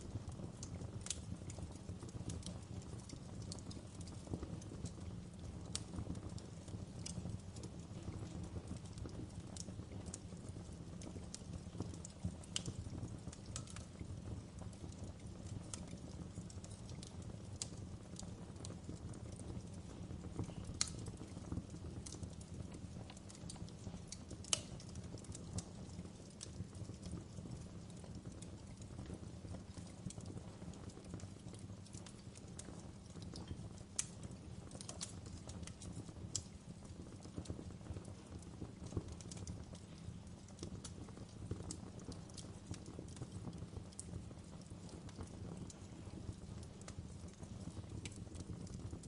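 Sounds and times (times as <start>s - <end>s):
low rumble of flames: 0.0s - 49.0s
wood fire crackling: 0.0s - 49.0s.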